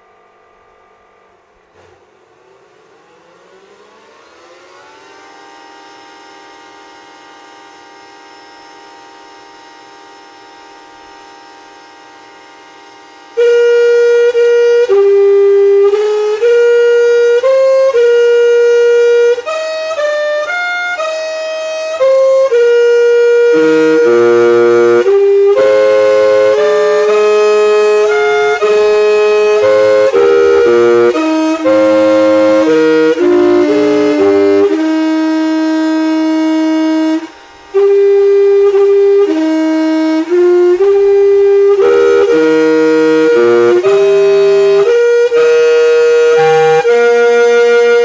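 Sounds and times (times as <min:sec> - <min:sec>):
siren motor harmonica-like chord: 0:01.1 - 0:48.0
loud siren melody: 0:02.7 - 0:48.0.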